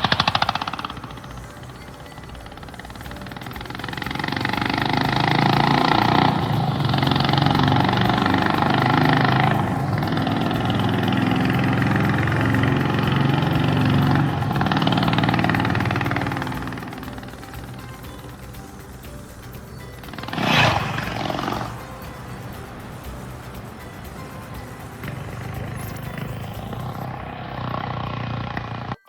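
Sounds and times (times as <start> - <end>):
motorcycle engine under throttle: 0.0 - 29.0.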